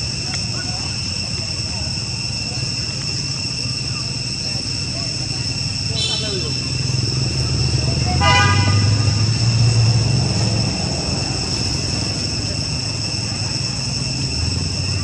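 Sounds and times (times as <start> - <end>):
high-pitched whine: 0.0 - 15.0
road traffic rumble: 0.0 - 15.0.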